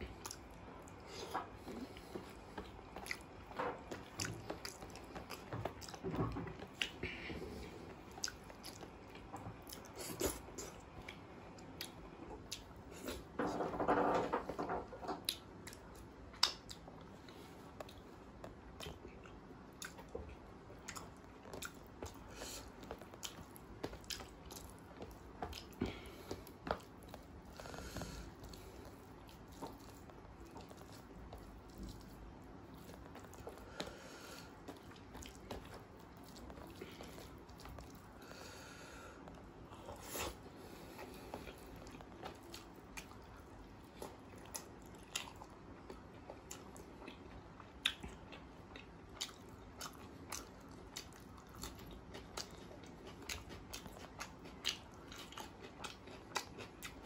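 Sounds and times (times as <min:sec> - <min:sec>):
wet chewing and lip smacking: 0:00.2 - 0:13.3, 0:15.2 - 0:38.5, 0:39.2 - 0:57.0.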